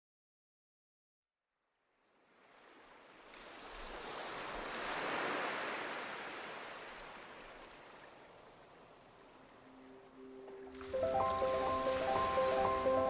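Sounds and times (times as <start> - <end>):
sea waves rushing: 2.3 - 13.0.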